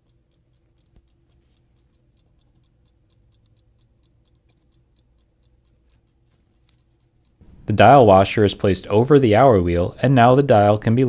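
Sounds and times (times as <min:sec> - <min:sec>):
pocket watch ticking: 0:00.0 - 0:09.5.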